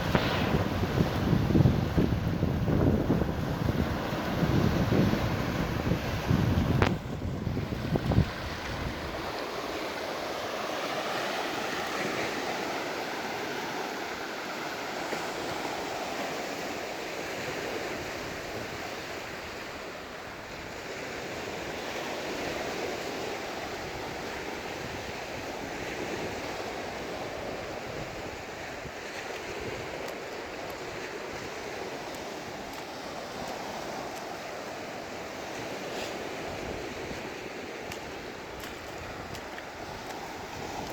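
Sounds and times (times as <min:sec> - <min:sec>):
sea surf breaking on beach: 0:00.0 - 0:40.9.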